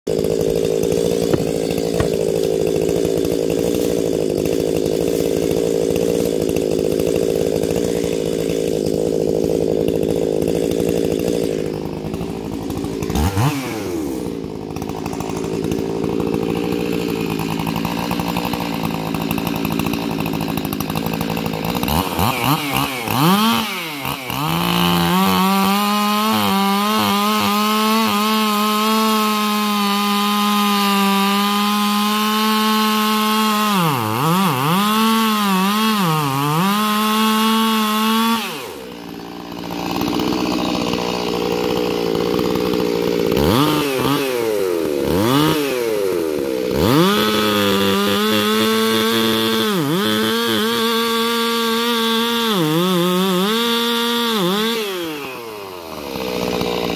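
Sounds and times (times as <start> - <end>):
chainsaw idling and revving: 0.0 - 56.9
chainsaw cutting into trunk: 0.1 - 56.9.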